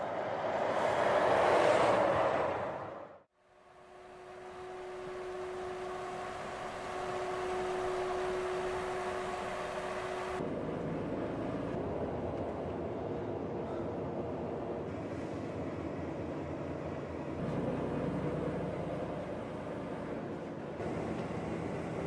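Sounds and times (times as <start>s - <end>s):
vehicle engine and road noise: 0.0s - 22.0s
steady hum: 3.4s - 22.0s.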